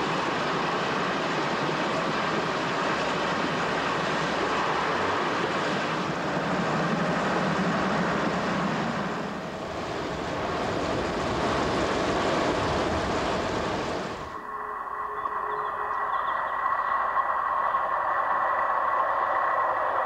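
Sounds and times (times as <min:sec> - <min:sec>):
wheel-on-rail noise: 0:00.0 - 0:20.0
wind rushing past train: 0:00.0 - 0:20.0.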